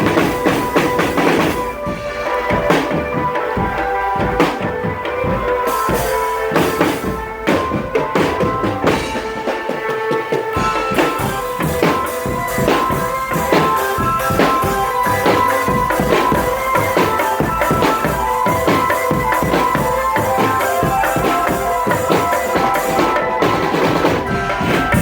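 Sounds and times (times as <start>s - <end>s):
marching drum band: 0.0s - 25.0s.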